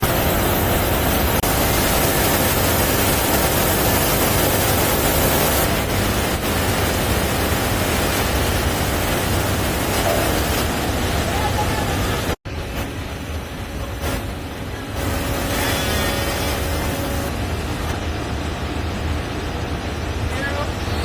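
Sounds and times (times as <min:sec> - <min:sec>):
baler machine running: 0:00.0 - 0:19.3.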